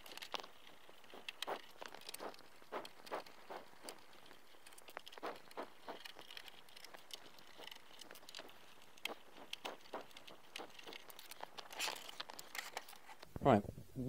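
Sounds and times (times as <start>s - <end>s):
screwdriver clicks and scrapes: 0.0s - 13.3s.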